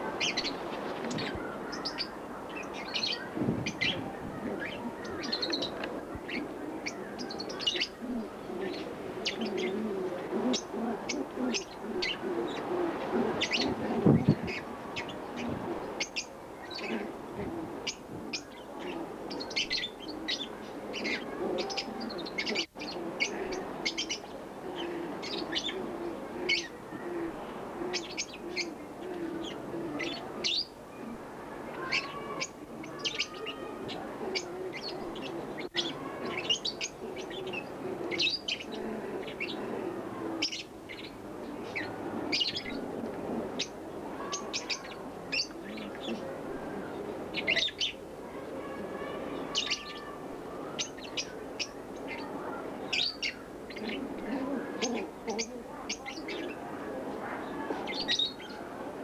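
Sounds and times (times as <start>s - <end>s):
small birds chirping: 0.0s - 58.8s
low repeated cooing: 0.0s - 59.0s.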